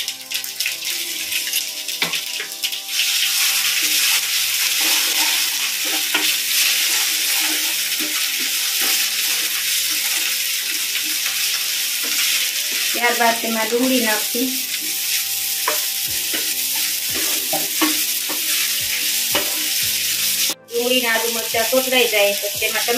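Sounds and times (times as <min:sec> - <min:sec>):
hot fat sizzling in a frying pan: 0:00.0 - 0:22.9
spoon scraping a pan: 0:01.2 - 0:20.6.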